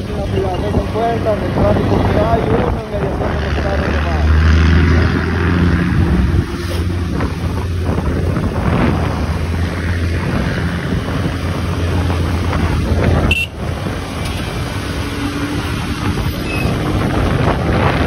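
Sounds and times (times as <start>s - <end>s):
vehicle road noise: 0.0s - 18.0s
wind buffeting microphone: 0.0s - 18.0s.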